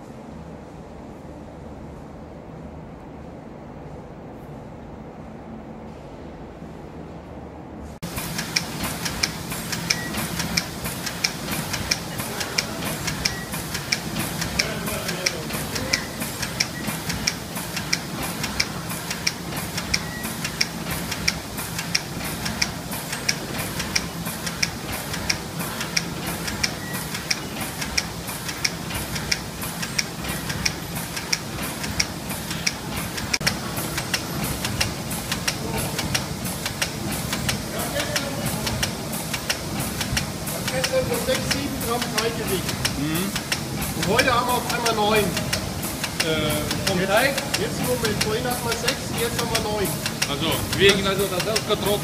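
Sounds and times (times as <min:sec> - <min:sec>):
machine hum: 0:00.0 - 0:52.0
regular sharp machine clicks: 0:08.0 - 0:52.0.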